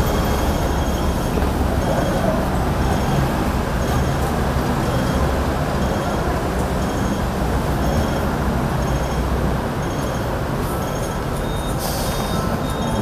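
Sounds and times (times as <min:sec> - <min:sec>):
road traffic: 0:00.0 - 0:13.0
tram rumbling on rails: 0:00.0 - 0:13.0.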